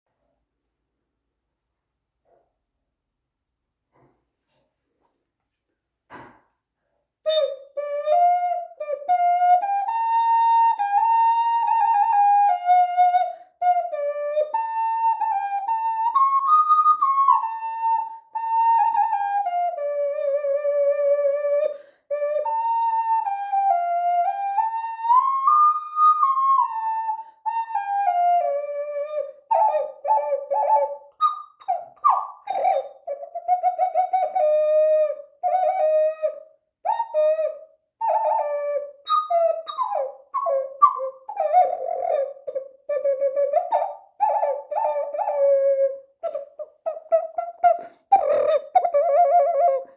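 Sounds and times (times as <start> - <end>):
ocarina melody: 7.3 - 49.9.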